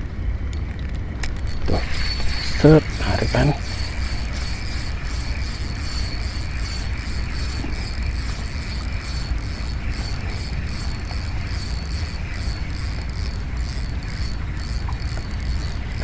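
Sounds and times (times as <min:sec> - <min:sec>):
fishing reel whirring and ticking: 0:01.2 - 0:16.0.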